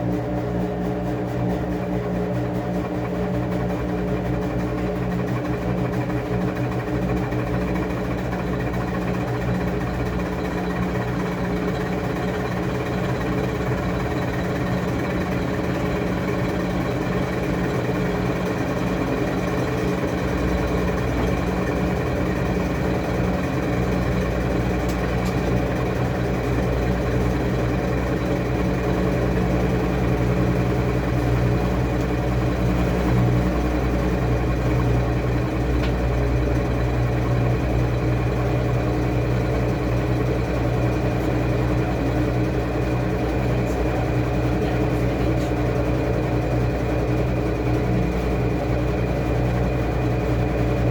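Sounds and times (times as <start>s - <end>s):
washing machine motor hum: 0.0s - 50.9s.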